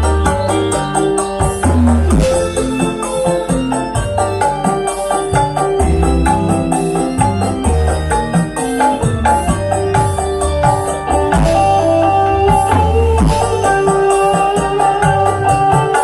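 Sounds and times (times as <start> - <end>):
loud music through sound system: 0.0 - 16.0.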